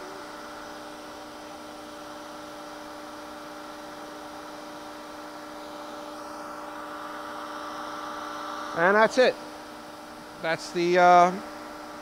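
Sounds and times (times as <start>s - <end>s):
grinder electric hum: 0.0s - 12.0s.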